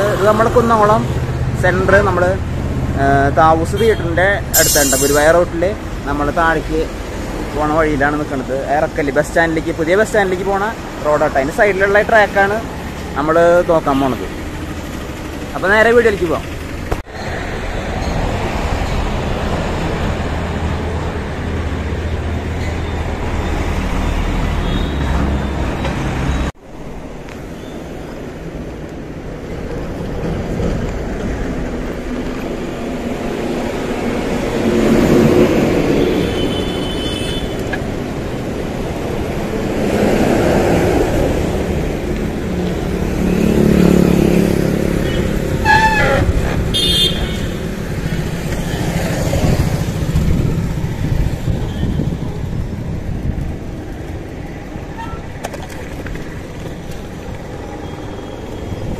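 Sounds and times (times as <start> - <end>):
road traffic passing: 0.0 - 58.9.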